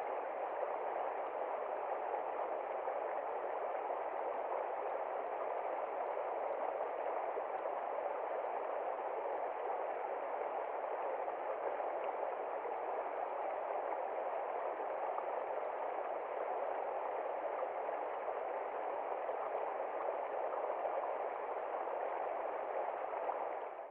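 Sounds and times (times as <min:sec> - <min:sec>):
stream gurgling over rocks: 0:00.0 - 0:23.9.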